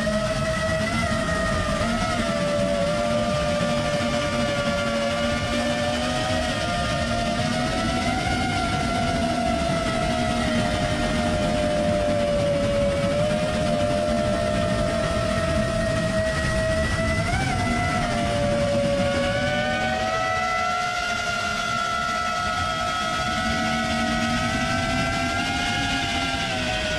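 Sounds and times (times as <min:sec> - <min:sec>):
drone motors whining: 0:00.0 - 0:26.9
wind noise: 0:00.0 - 0:26.9.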